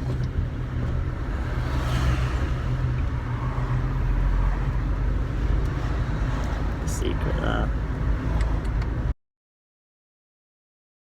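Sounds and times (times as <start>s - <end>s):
car engine and road rumble: 0.0s - 9.2s.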